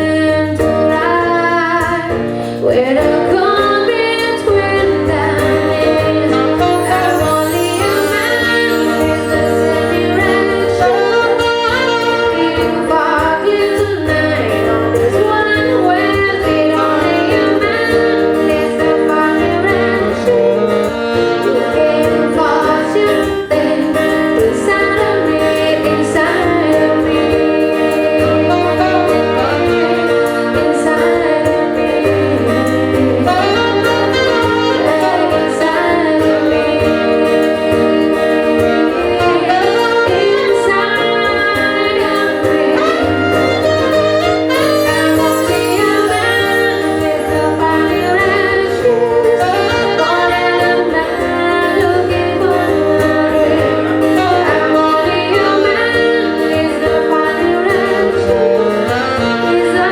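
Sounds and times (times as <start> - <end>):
band song with gliding lead melody: 0.0 - 59.9.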